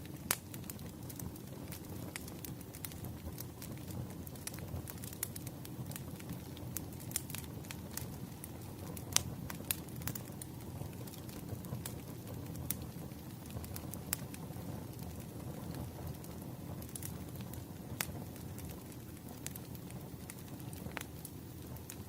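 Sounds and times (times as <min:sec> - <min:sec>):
fire crackling: 0:00.0 - 0:22.0
fire pops and snaps: 0:00.0 - 0:22.0
flames rumbling: 0:00.0 - 0:22.0.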